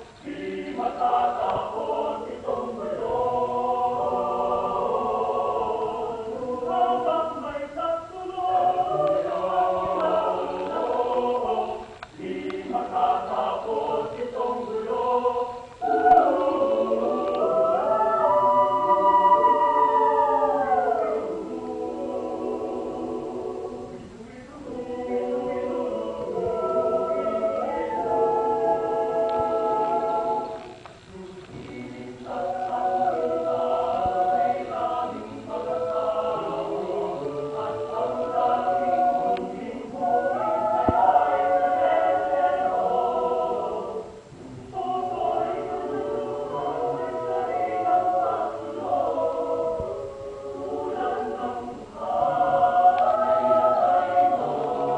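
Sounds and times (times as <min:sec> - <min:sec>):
choir singing a cappella: 0:00.0 - 0:54.9.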